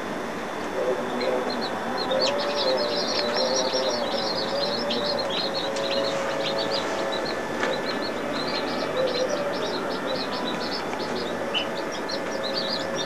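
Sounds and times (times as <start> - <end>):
incubator mechanical hum: 0.0 - 13.0
chicks peeping: 0.7 - 13.0.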